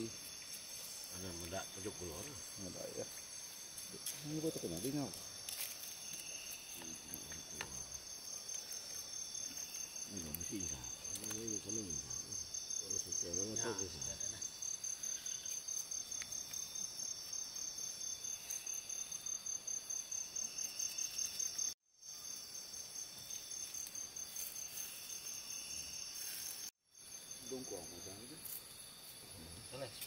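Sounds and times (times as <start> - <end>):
insect chorus trilling: 0.0 - 30.0.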